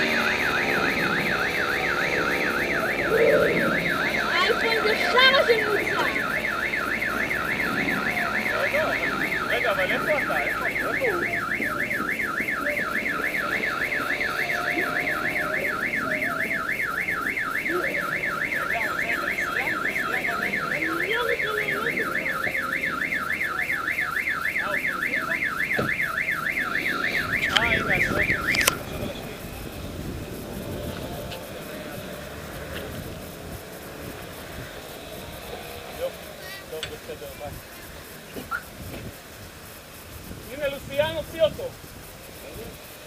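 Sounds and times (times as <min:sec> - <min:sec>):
car alarm siren warbling: 0:00.0 - 0:38.9.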